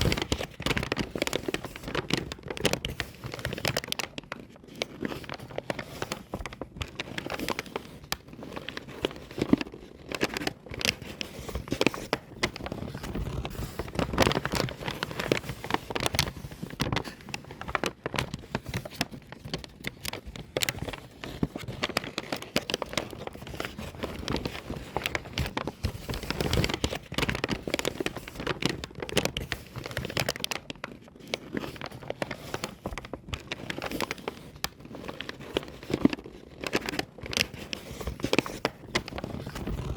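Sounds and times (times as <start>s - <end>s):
paper bag crumpling: 0.0s - 39.9s.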